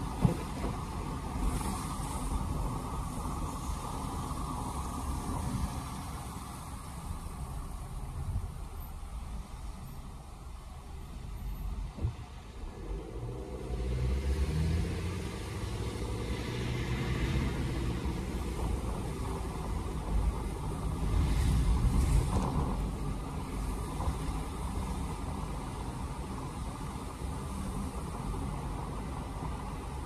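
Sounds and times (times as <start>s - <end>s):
car engine rumble: 0.0s - 30.0s
tyre noise on wet road: 0.0s - 30.0s.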